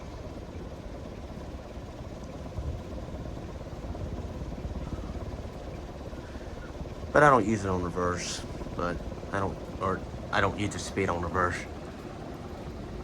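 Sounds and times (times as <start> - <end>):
ceiling fan air rushing: 0.0 - 13.0
low motor hum: 0.0 - 13.0.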